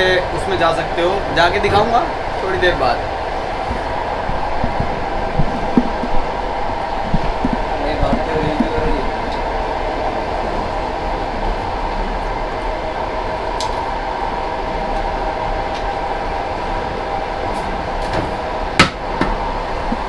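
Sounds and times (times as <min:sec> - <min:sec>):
train running from inside: 0:00.0 - 0:20.0.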